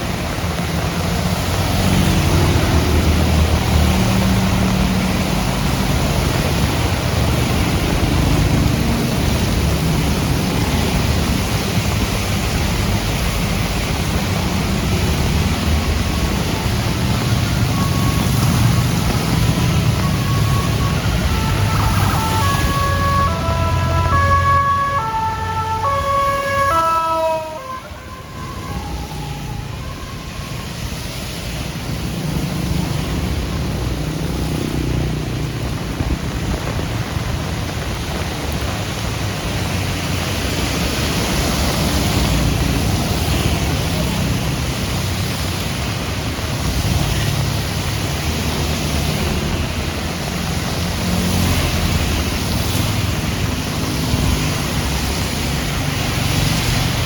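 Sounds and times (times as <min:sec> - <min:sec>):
road traffic rumble: 0:00.0 - 0:57.0
steady rain: 0:00.0 - 0:57.0.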